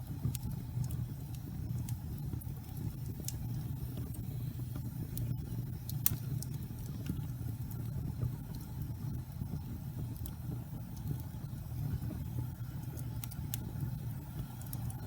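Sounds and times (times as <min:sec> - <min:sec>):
fire crackling and popping: 0:00.0 - 0:15.0
wood fire burning: 0:00.0 - 0:15.0.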